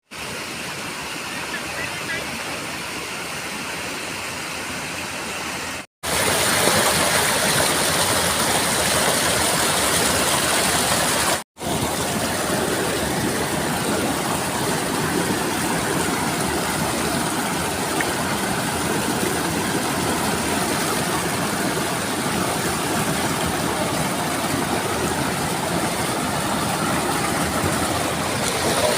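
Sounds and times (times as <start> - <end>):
river water rushing: 0.1 - 28.9.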